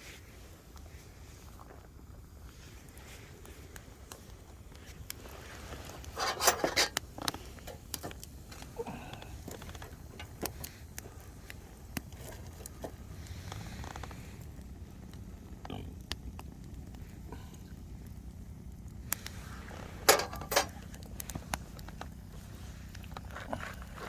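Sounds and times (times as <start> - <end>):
firewood crackling and popping: 0.2 - 24.0.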